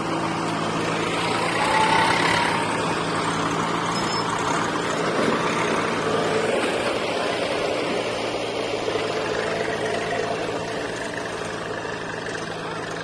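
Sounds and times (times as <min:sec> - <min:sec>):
digger diesel engine under load: 0:00.0 - 0:13.0
tractor diesel engine idling: 0:00.0 - 0:13.0.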